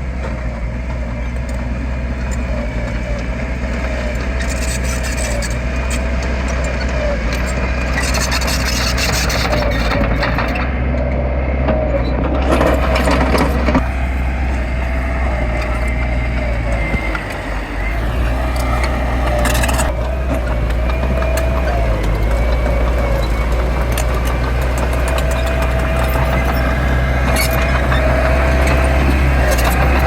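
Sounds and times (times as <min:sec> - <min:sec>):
diesel machine engine with whine: 0:00.0 - 0:30.0.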